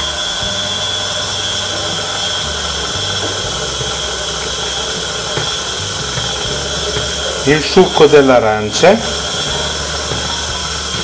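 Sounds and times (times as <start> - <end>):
stand mixer motor running: 0.0 - 11.0.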